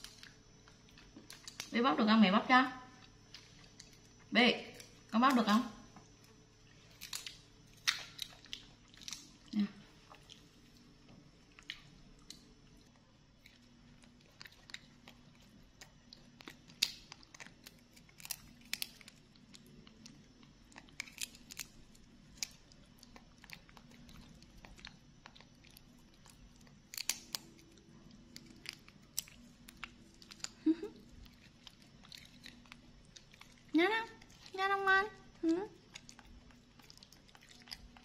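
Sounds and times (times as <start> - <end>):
peanut shells crunching: 0.0 - 1.8, 6.2 - 10.9, 11.5 - 38.0.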